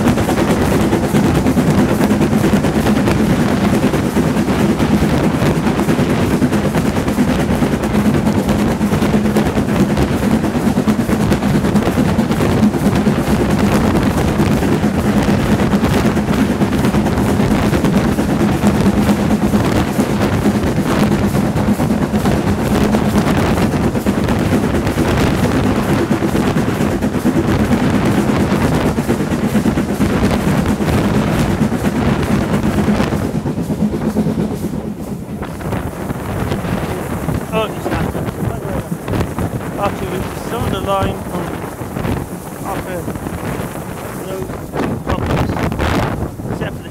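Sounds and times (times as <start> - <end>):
steam locomotive running at speed: 0.0 - 46.9.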